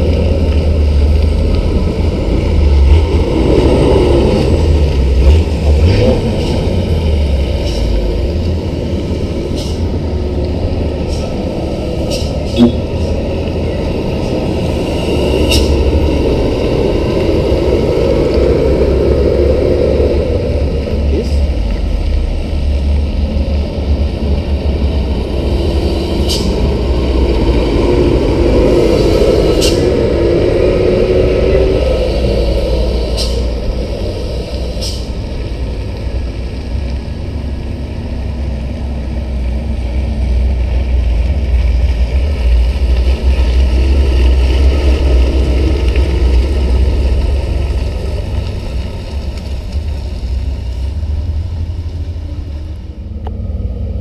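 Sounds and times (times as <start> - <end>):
dump truck engine rumble: 0.0 - 54.0.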